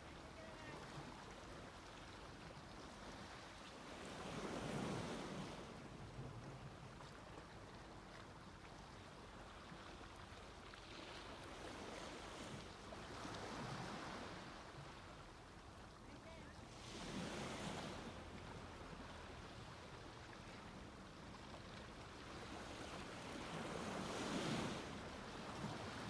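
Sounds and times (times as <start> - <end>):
small waves breaking on beach: 0.0 - 26.0.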